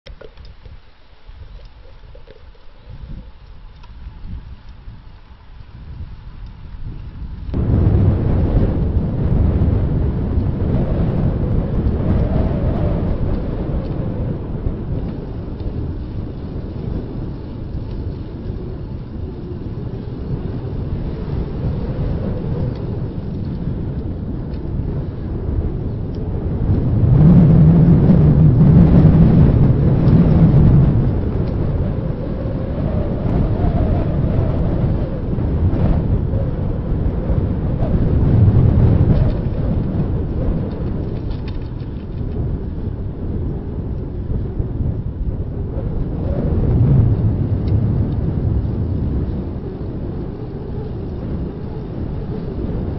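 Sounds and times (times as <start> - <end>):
wind buffeting microphone: 0.1 - 52.9.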